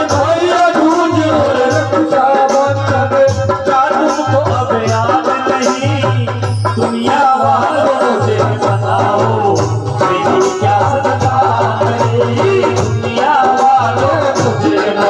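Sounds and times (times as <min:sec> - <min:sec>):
drum rhythm: 0:00.0 - 0:15.0
man singing through microphone: 0:00.0 - 0:15.0.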